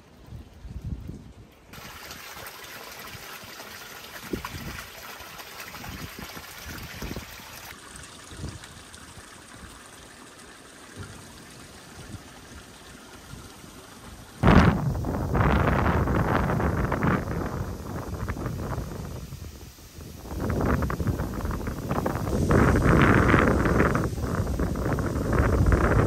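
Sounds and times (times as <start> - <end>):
stream flowing: 0.0 - 26.0
water trickling into stone basin: 0.4 - 26.0.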